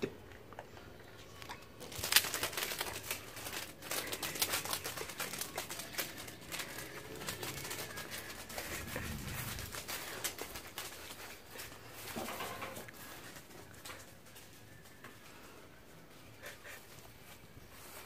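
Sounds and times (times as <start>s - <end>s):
sticky tape crackling and crinkling: 0.4s - 18.0s.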